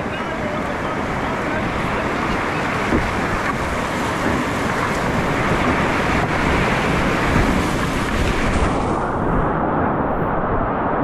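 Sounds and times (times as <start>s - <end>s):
whitewater rushing down a creek: 0.0s - 9.4s.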